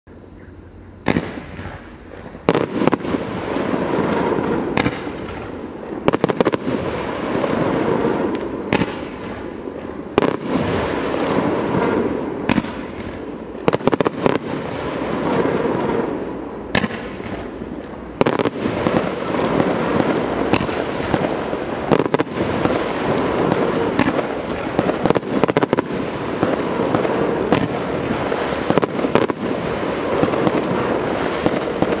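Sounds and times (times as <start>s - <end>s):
rapid firework bangs: 1.0s - 32.0s.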